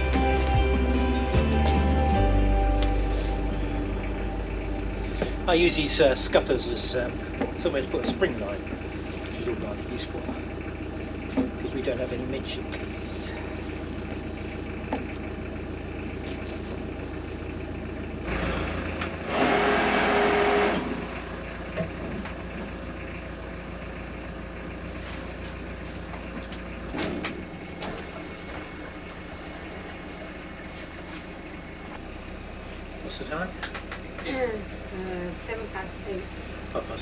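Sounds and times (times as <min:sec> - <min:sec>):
boat engine running: 0:00.0 - 0:37.0.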